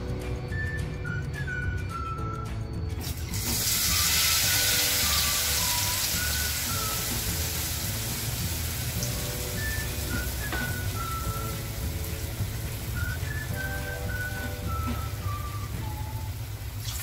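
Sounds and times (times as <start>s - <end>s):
light background music: 0.0s - 17.0s
bread sizzling in hot oil: 3.0s - 17.0s.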